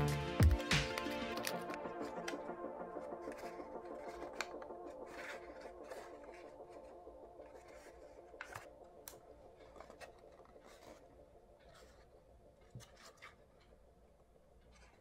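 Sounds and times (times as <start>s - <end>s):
paper rustling and folding: 0.0s - 13.9s.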